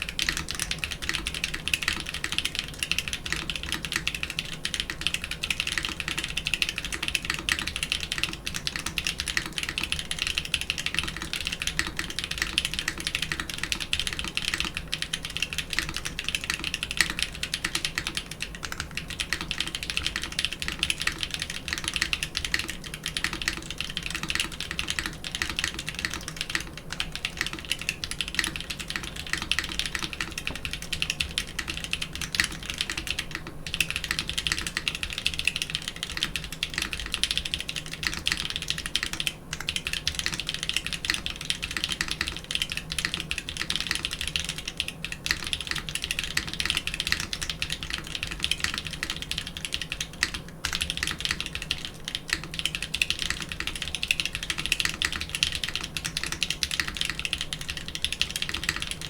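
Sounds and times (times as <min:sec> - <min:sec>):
mechanical keyboard typing: 0:00.0 - 0:59.0.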